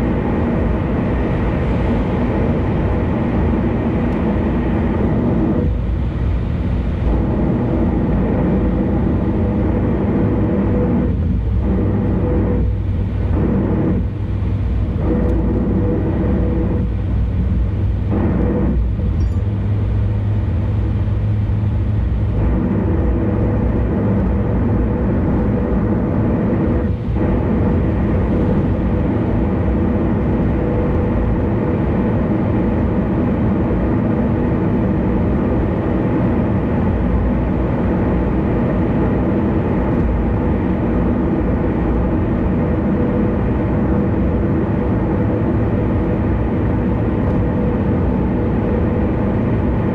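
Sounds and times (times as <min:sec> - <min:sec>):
car road and engine noise: 0:00.0 - 0:49.9
constant hum: 0:00.0 - 0:49.9.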